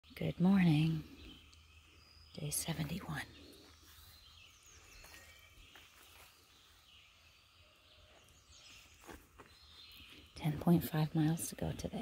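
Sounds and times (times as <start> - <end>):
faint bird chirps: 0.2 - 11.0.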